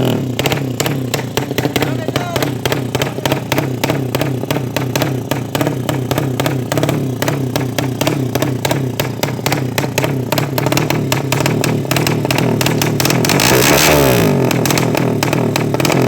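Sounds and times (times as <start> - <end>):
engine cracks and clatter: 0.0 - 16.0
motorcycle engine running: 0.0 - 16.0.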